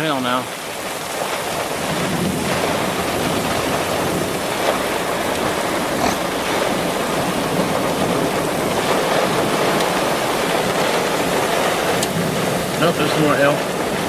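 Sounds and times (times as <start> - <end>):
wind and driving rain: 0.0 - 5.8, 6.7 - 14.0.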